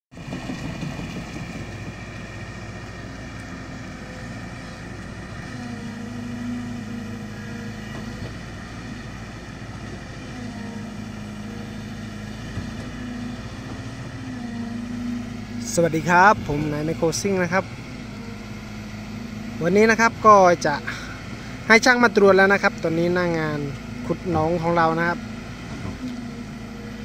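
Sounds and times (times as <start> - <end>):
excavator diesel engine running: 0.1 - 27.0.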